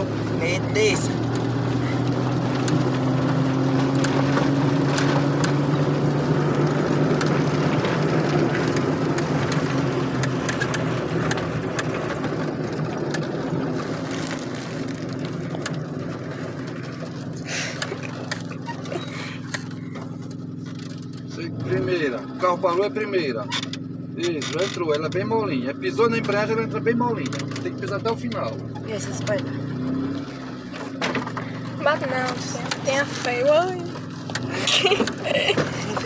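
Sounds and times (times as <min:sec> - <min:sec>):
tyre noise on dirt track: 0:00.0 - 0:25.2, 0:26.0 - 0:36.0
car body rattling: 0:00.0 - 0:36.0
car engine running: 0:00.0 - 0:36.0.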